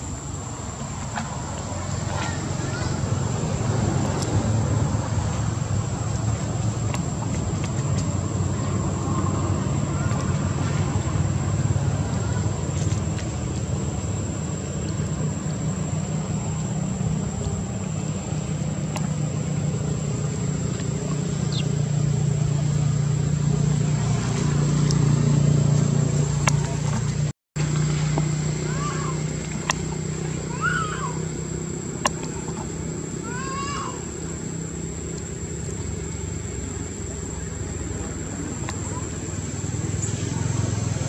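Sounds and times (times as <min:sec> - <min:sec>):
low motor drone: 0:00.0 - 0:41.0.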